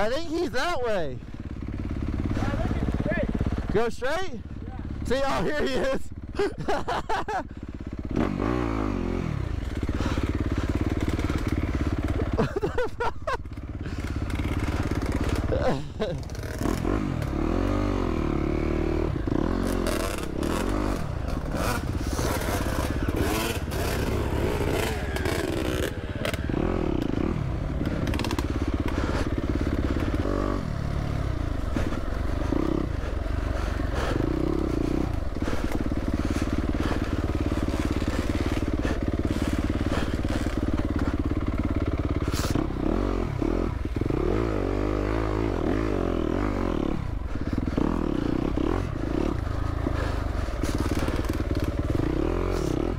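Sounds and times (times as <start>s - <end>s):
dirt bike engine revving: 0.0s - 52.9s
bike clattering over rough trail: 9.5s - 17.9s, 18.8s - 52.9s.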